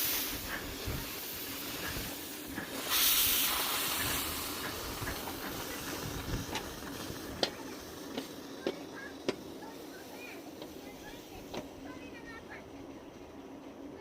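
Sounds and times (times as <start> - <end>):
steam hissing: 0.0 - 14.0.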